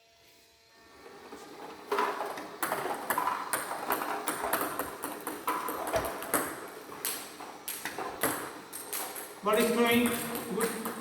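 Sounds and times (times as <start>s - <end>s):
table tennis balls clicking and bouncing: 1.2s - 11.0s.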